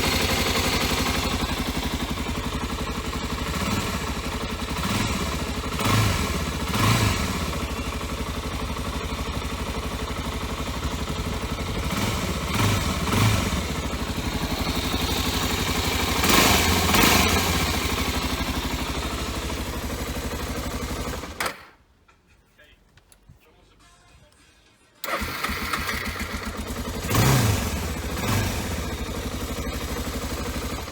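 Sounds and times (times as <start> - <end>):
motorcycle engine idling: 0.0 - 21.4, 25.0 - 30.9.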